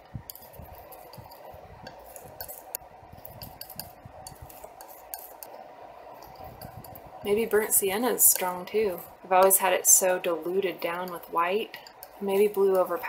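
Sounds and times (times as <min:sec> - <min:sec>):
mixing tool tapping palette: 0:00.0 - 0:05.6, 0:06.2 - 0:13.0
faint steady hum: 0:00.0 - 0:13.0.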